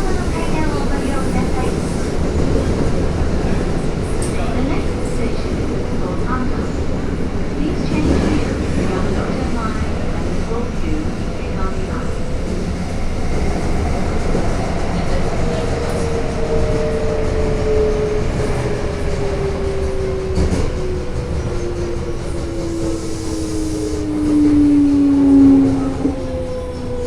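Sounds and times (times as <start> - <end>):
wheels rumbling on rails: 0.0 - 27.0.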